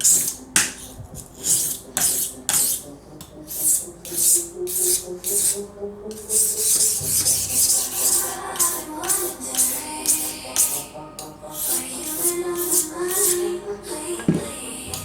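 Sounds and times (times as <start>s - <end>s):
knife sharpening strokes: 0.0s - 13.4s
faint background music: 0.0s - 15.0s.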